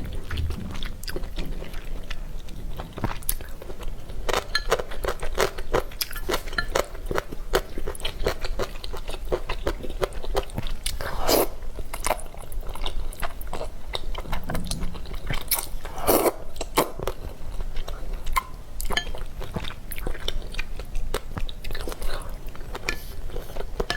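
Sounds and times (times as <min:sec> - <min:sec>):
chewing noodles: 0:00.0 - 0:23.9.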